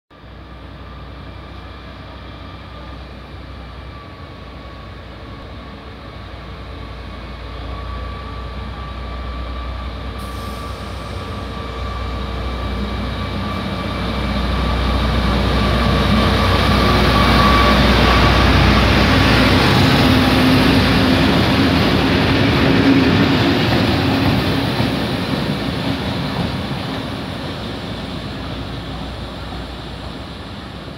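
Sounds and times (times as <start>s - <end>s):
diesel locomotive engine drone: 0.1s - 30.9s.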